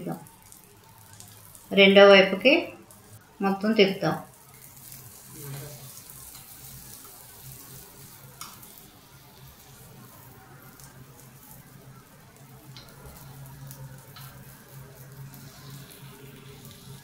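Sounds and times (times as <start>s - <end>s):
batter sizzling in oil: 0.0s - 17.0s.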